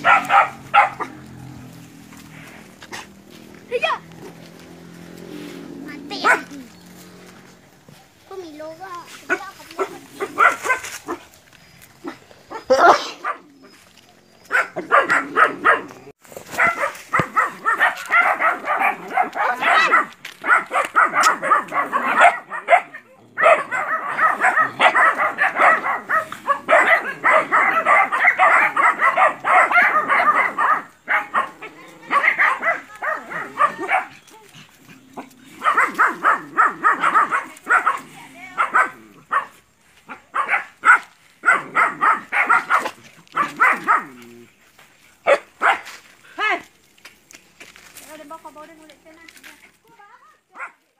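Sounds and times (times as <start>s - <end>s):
puppies yapping and barking: 0.0s - 8.3s, 9.2s - 46.0s.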